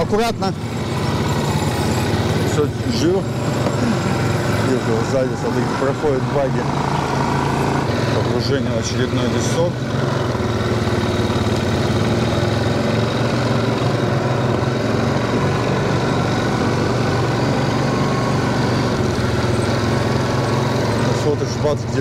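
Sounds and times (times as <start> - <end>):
quad bike engine running: 0.0 - 22.0.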